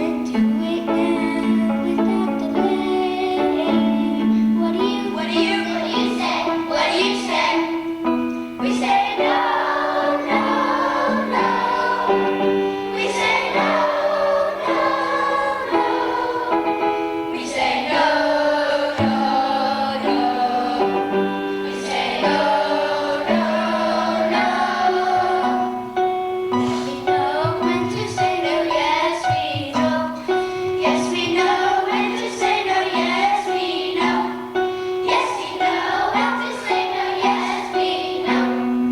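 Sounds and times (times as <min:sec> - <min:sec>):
choir singing with instruments: 0:00.0 - 0:38.9.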